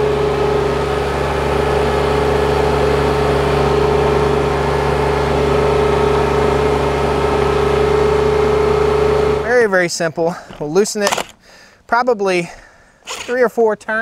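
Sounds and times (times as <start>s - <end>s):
steady whine: 0.0s - 11.4s
tractor engine hum: 0.0s - 11.5s.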